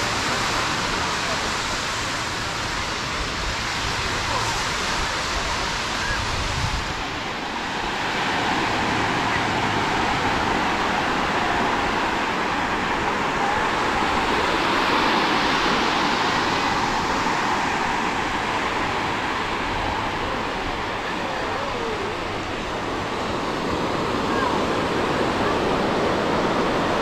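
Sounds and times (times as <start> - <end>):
sea surf breaking on beach: 0.0 - 27.0.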